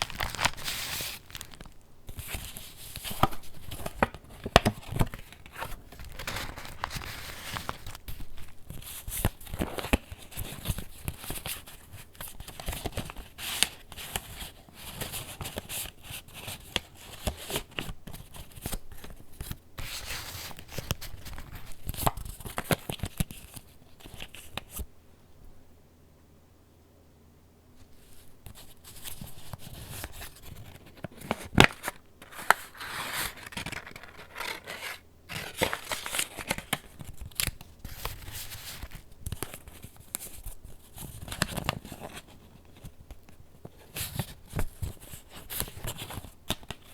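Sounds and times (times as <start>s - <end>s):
paper pages rustling and crinkling: 0.0s - 24.9s, 27.8s - 46.9s.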